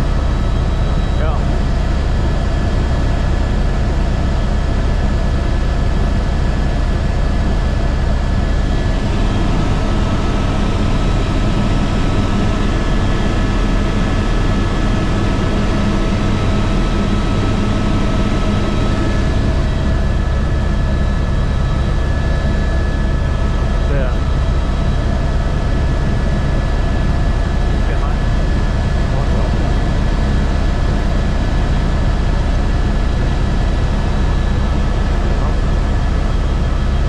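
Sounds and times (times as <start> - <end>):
helicopter rotor drone: 0.0 - 37.0
high turbine whine: 0.0 - 37.0.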